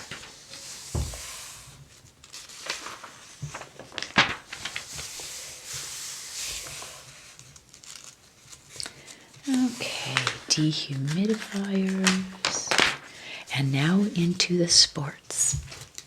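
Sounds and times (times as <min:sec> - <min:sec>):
paper pages turning: 0:00.0 - 0:14.8.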